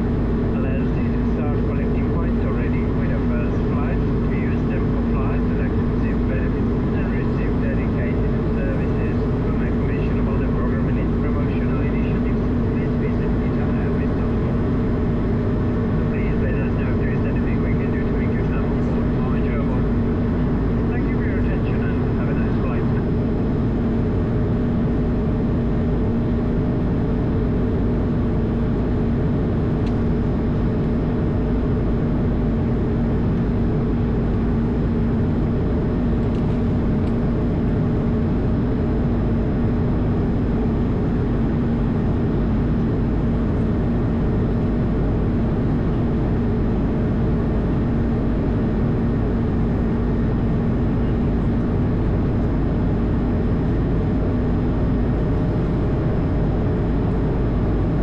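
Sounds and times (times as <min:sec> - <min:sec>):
jet engine and airflow drone: 0:00.0 - 0:58.0.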